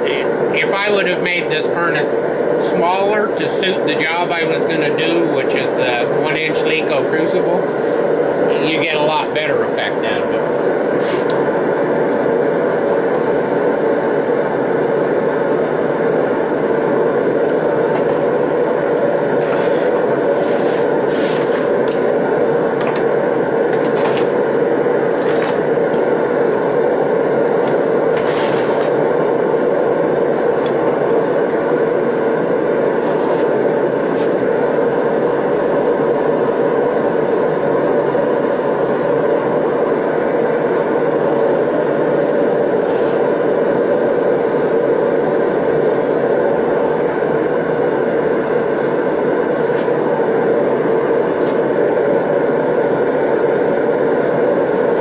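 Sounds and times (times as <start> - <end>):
torch flame rushing: 0.1 - 55.0.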